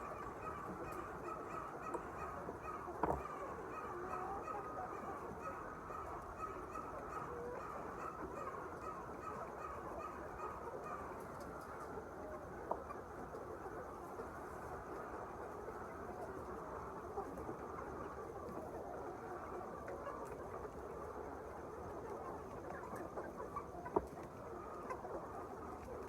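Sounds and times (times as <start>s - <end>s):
flock of poultry calling: 0.0s - 26.0s.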